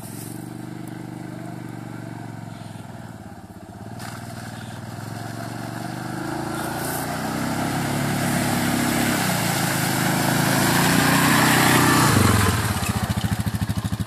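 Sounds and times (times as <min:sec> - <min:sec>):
quad bike engine running: 0:00.0 - 0:14.0
tyres churning through mud: 0:00.0 - 0:14.0.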